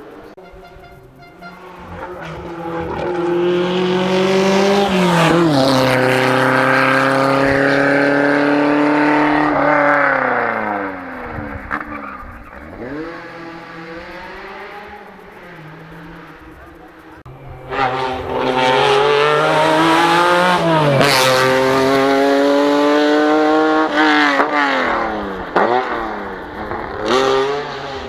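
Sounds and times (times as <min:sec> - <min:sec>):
rally car engine passing: 0:00.0 - 0:28.0.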